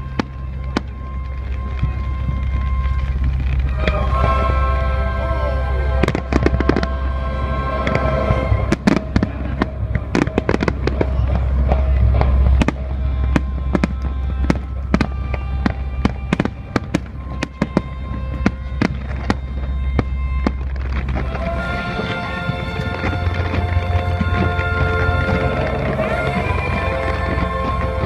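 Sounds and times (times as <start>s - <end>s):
fireworks bangs and crackles: 0.0s - 4.4s, 5.9s - 7.0s, 7.7s - 28.0s
music playing: 0.0s - 28.0s
steady low rumble: 0.0s - 28.0s.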